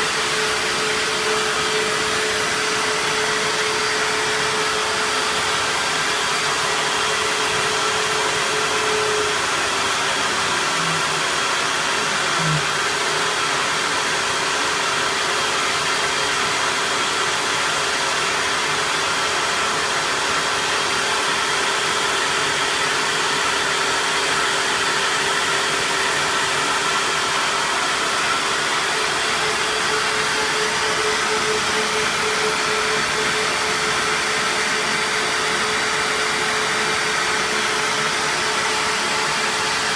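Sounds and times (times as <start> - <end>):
milling machine motor whir: 0.0 - 39.9.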